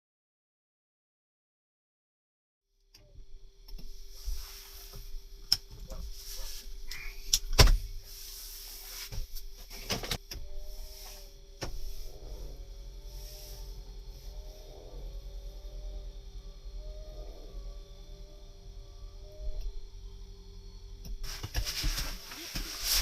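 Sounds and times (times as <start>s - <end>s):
faint steady hum: 2.7s - 23.0s.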